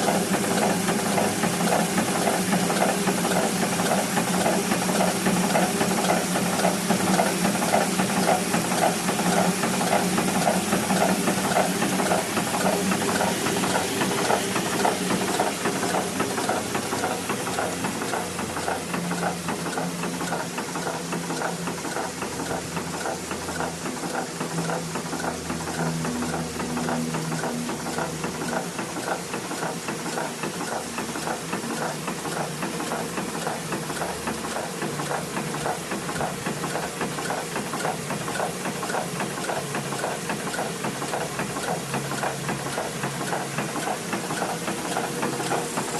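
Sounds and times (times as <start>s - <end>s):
hot air engine clattering: 0.0s - 45.9s.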